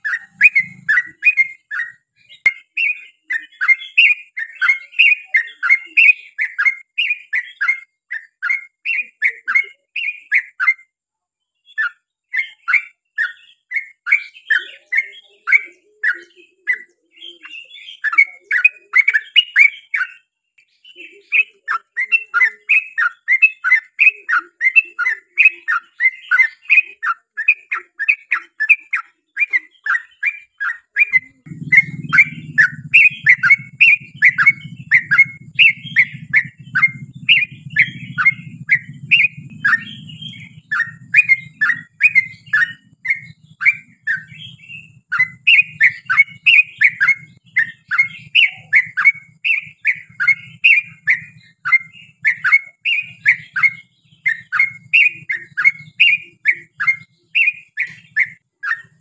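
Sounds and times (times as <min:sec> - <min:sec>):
bird chattering whistled notes: 0:00.0 - 0:10.9, 0:11.7 - 0:59.0.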